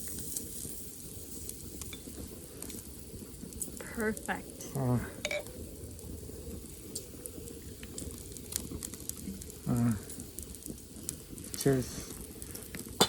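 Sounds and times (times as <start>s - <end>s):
fire crackles: 0.0s - 13.0s
meat sizzling over a campfire: 0.0s - 13.0s.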